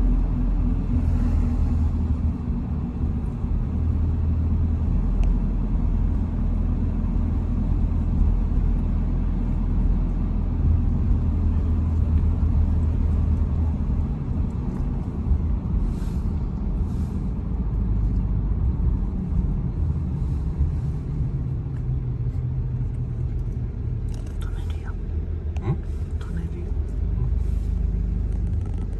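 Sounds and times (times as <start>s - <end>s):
car engine and tyre rumble: 0.0s - 28.9s.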